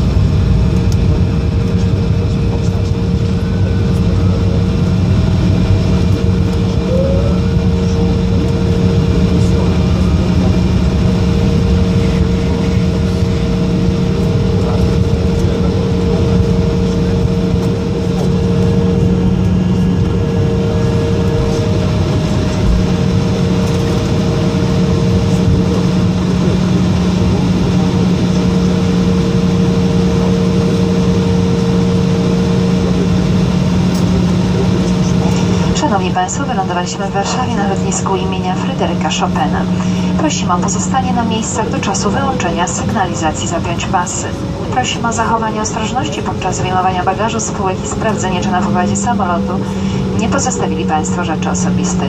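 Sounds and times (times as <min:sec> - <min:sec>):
jet engines humming: 0:00.0 - 0:52.0.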